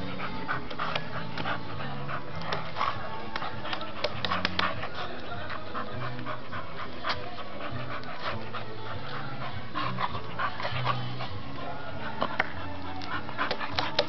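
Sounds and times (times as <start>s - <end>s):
dog panting hard: 0.0s - 14.0s
teeth scraping on bark: 0.1s - 14.0s.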